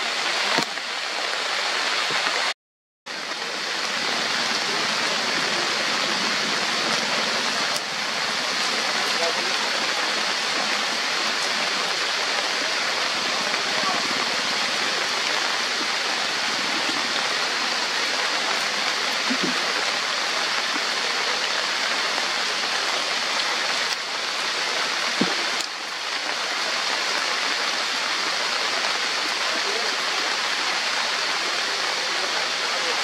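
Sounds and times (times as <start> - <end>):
heavy rain on foliage: 0.0 - 33.0.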